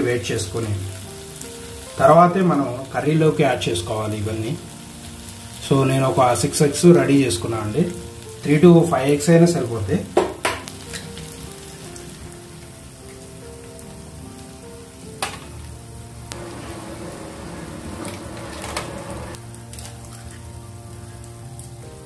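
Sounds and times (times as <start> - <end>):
sauce sizzling in a pan: 0.0 - 22.0.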